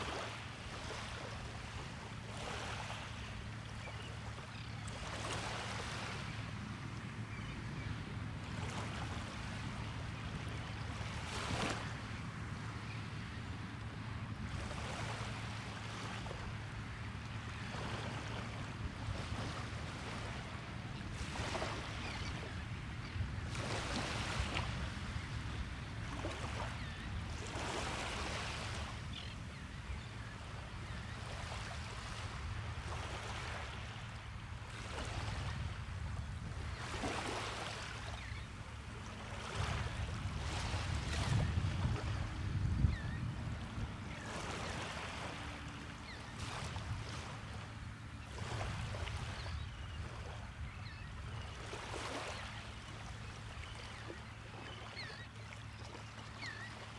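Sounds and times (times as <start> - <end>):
small waves breaking on shore: 0.0 - 7.5, 8.2 - 56.9.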